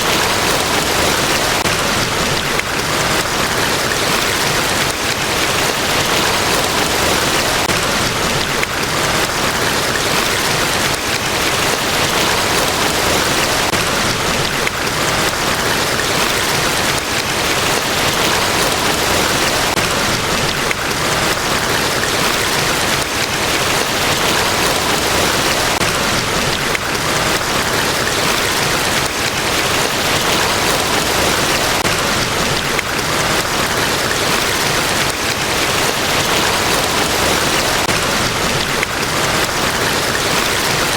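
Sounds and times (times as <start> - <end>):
waterfall pouring: 0.0 - 40.9.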